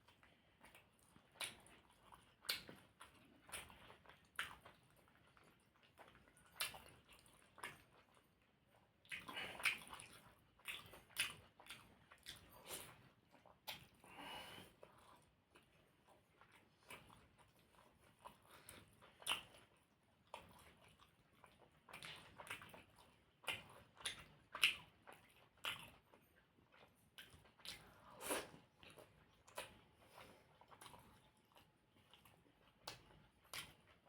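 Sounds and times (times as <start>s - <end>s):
person chewing with mouth smacks: 0.0s - 34.0s.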